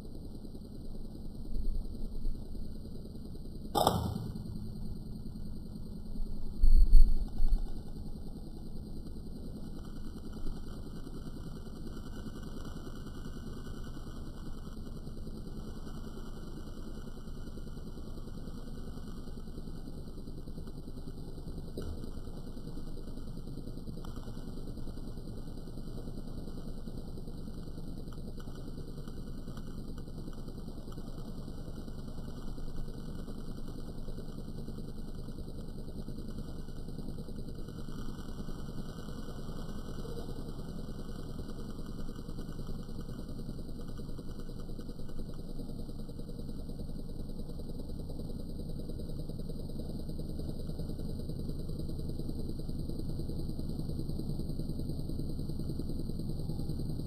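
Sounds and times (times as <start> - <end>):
faint sparking crackles: 3.6 - 56.9.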